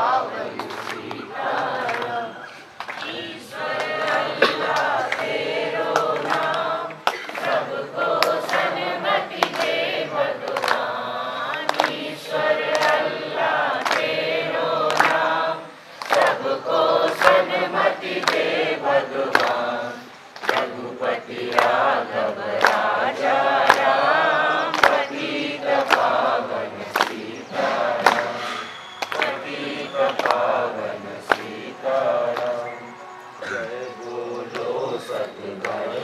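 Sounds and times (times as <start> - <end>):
group of young voices singing: 0.0 - 36.0.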